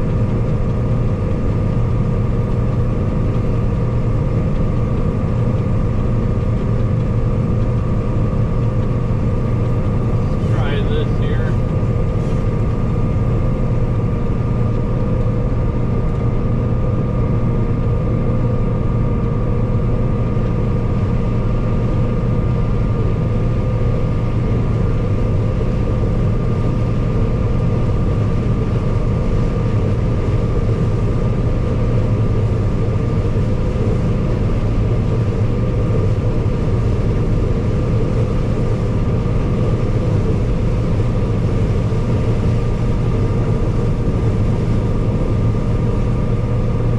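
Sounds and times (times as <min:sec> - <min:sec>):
combine harvester engine droning: 0:00.0 - 0:46.9.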